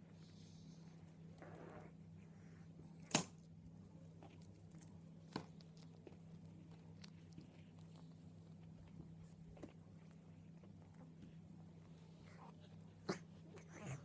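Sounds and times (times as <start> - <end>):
soft rustle: 0.0 - 14.0
steady low hum: 0.0 - 14.0.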